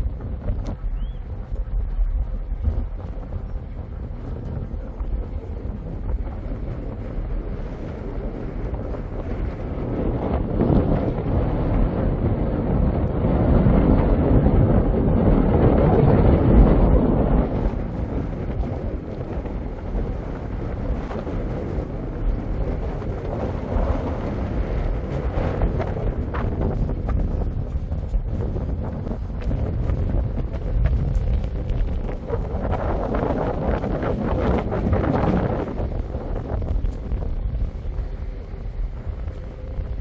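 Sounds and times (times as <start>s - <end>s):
moving boat low noise: 0.0s - 40.0s
wind noise on microphone: 0.0s - 40.0s.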